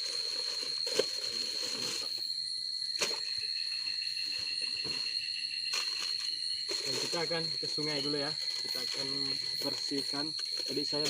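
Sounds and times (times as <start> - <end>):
crickets trilling: 0.0 - 11.0
lower insect tone: 0.0 - 11.0.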